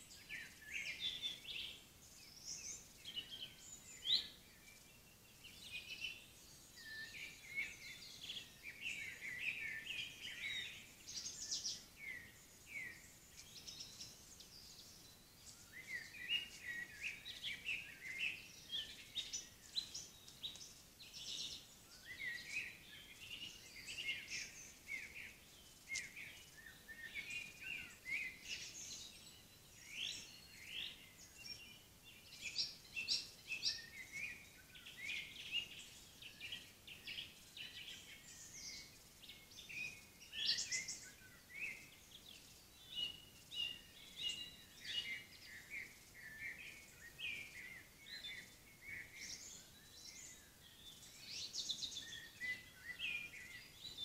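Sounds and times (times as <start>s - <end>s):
faint hiss: 0.0s - 54.0s
songbirds singing: 0.0s - 54.0s.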